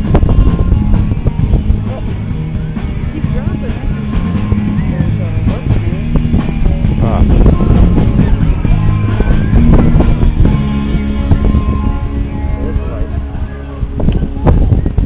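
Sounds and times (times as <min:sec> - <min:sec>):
loud guitar music: 0:00.0 - 0:15.0
steady bass line: 0:00.0 - 0:15.0.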